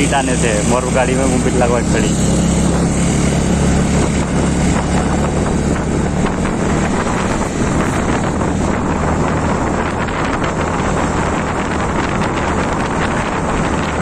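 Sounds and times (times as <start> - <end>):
scooter engine running: 0.0 - 14.0
wind rushing over microphone: 0.0 - 14.0.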